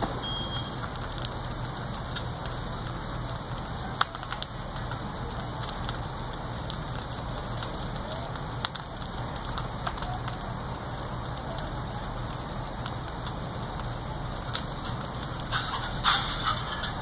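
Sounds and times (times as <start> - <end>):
burning timber crackling and popping: 0.0 - 17.0
fire hissing: 0.0 - 17.0.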